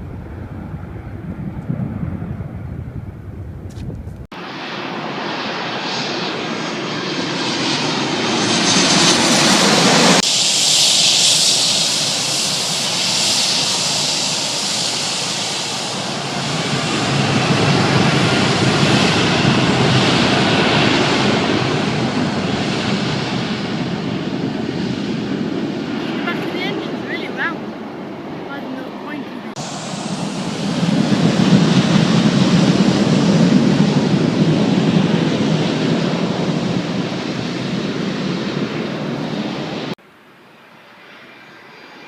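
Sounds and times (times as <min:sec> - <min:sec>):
plane engines roaring: 0:00.0 - 0:42.0.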